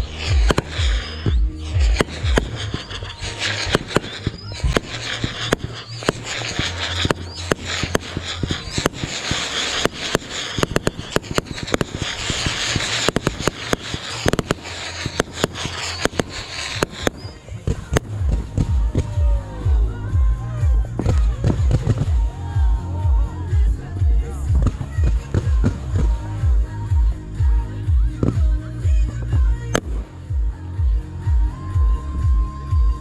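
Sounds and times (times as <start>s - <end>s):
fireworks popping and banging: 0.0s - 33.0s.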